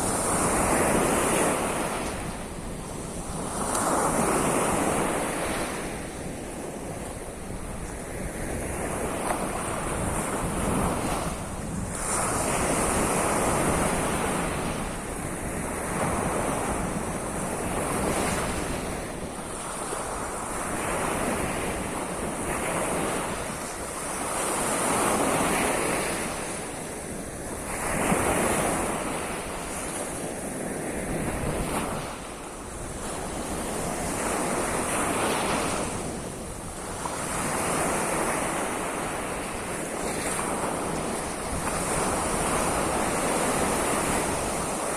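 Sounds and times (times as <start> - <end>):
waves breaking on shore: 0.0 - 44.9
wind rumbling on microphone: 0.0 - 44.9.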